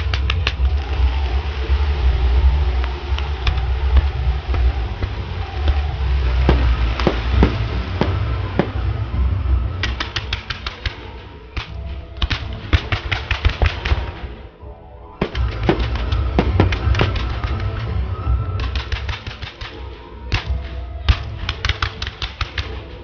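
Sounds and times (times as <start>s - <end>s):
fireworks bangs: 0.0s - 14.6s, 15.2s - 23.0s
music: 0.0s - 23.0s.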